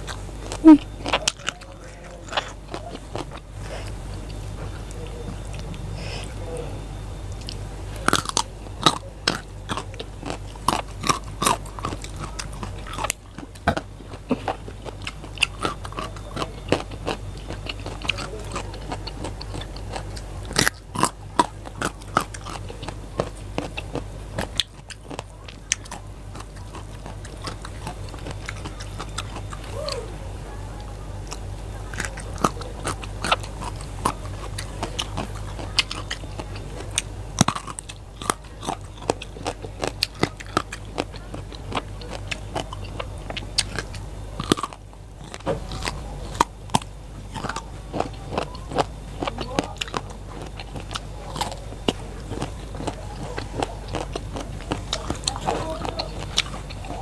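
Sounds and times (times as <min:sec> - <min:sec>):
low steady hum: 0:00.0 - 0:57.0
raw vegetables crunched and chewed: 0:00.0 - 0:57.0.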